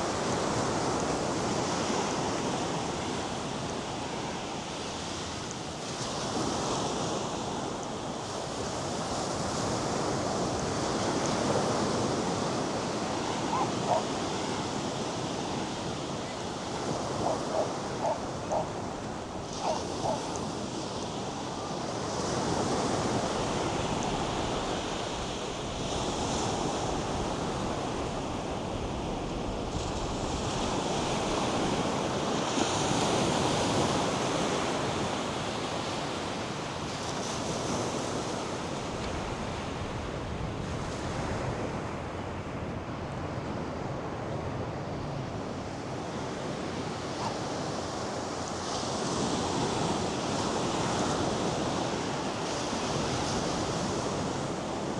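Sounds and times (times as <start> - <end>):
surf washing up beach: 0.0 - 54.9.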